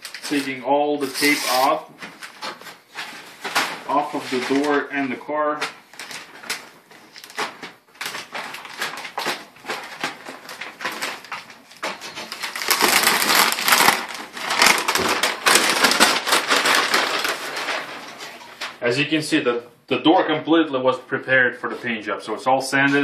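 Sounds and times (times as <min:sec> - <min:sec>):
paper and plastic crinkling: 0:00.0 - 0:18.8.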